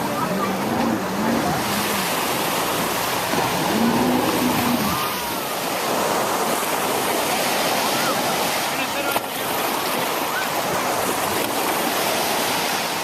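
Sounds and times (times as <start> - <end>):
sea water rushing: 0.0 - 13.0
wind: 0.0 - 13.0.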